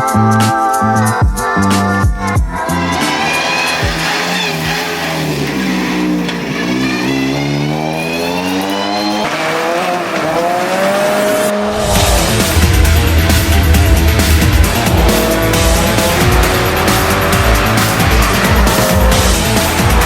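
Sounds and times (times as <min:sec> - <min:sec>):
race car engine accelerating: 0:02.5 - 0:20.0.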